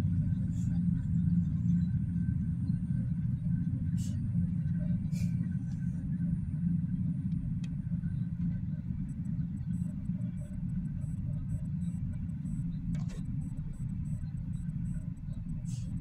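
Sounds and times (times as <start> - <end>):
locomotive engine rumble: 0.0 - 16.0.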